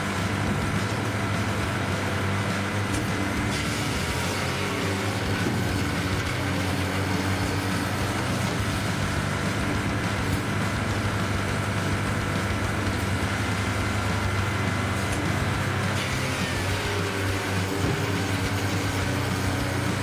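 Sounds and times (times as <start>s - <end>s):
log splitter engine running: 0.0s - 20.0s.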